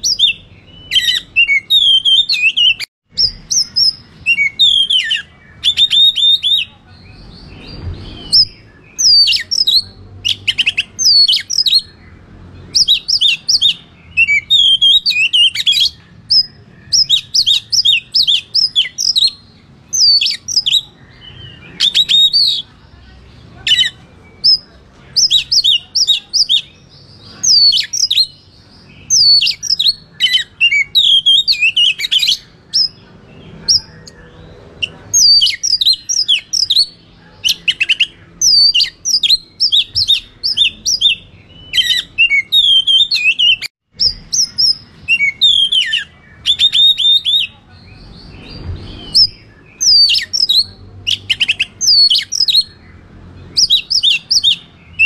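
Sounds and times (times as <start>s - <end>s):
magpie-robin singing: 0.0s - 55.0s.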